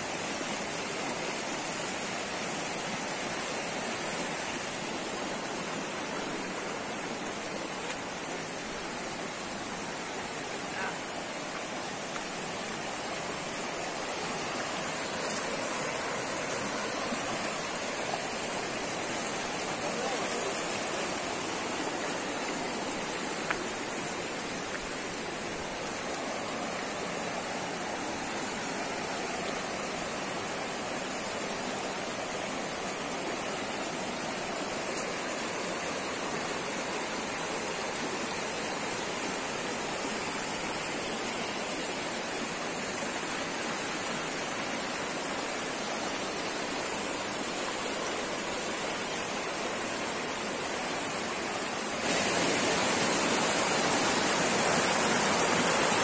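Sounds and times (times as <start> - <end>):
high-pitched hiss: 0.0 - 56.0
stream rushing over stones: 0.0 - 56.0.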